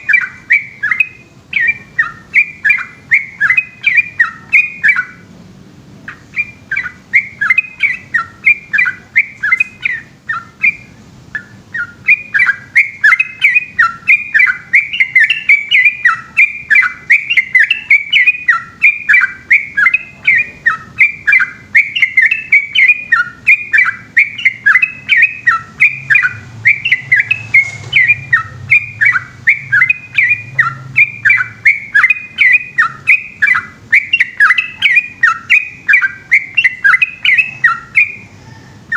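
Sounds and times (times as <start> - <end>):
bulbul singing rapid chirps: 0.0 - 5.3, 6.0 - 38.9.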